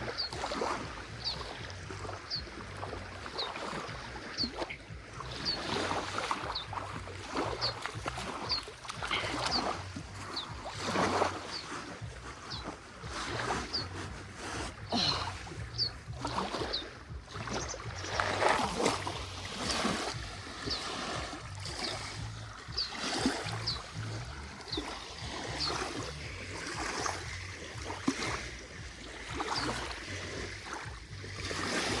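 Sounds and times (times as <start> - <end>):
water sloshing and lapping: 0.0 - 32.0.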